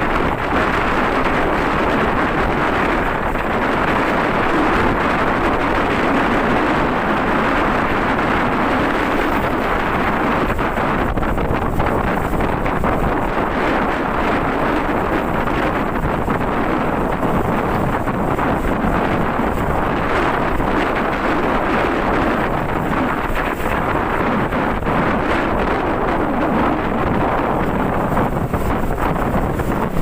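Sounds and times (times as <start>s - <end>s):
wind rush on microphone: 0.0s - 30.0s.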